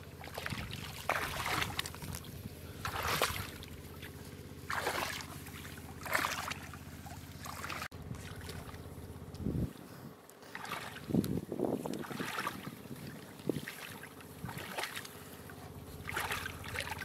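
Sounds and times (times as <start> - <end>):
muddy water sloshing and squelching: 0.0 - 17.0.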